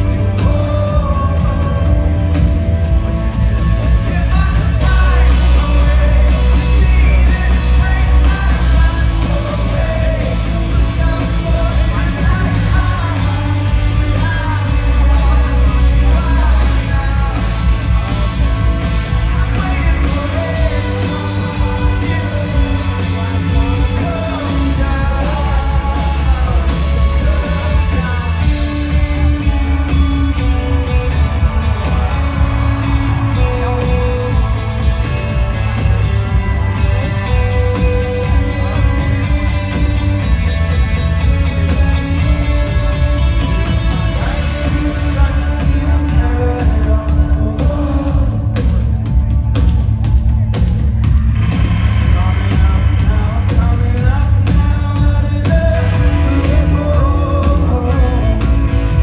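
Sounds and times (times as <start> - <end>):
person singing: 0.0 - 2.6, 3.2 - 50.8, 51.5 - 59.0
rock band playing live: 0.0 - 59.0.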